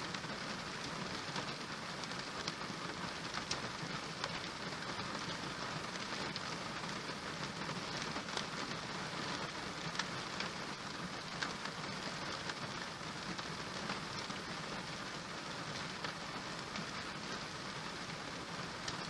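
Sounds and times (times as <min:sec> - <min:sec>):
raindrop ticks: 0:00.0 - 0:19.0
steady rain hissing: 0:00.0 - 0:19.0.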